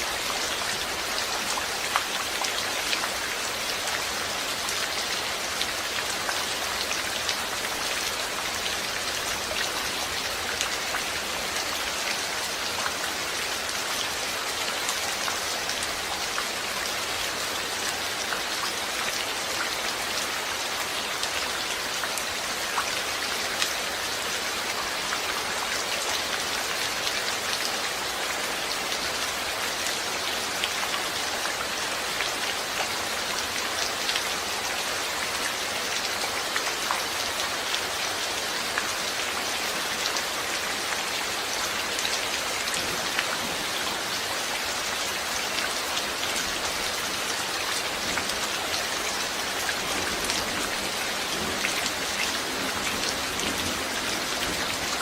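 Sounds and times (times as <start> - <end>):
rain on hard surface: 0.0 - 55.0.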